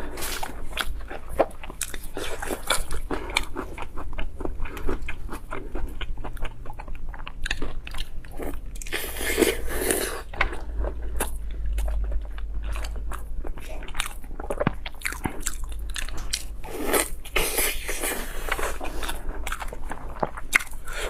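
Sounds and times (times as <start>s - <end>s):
crunching and chewing food: 0.0s - 21.0s.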